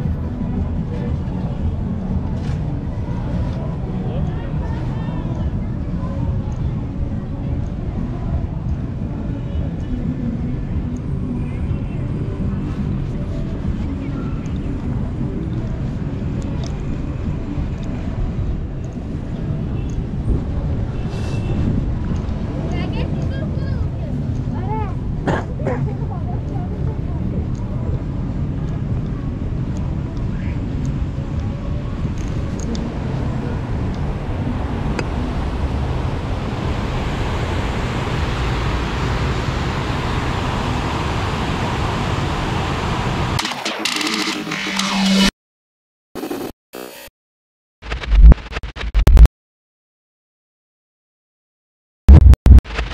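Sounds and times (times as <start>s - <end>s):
traffic rumble: 0.0s - 43.4s.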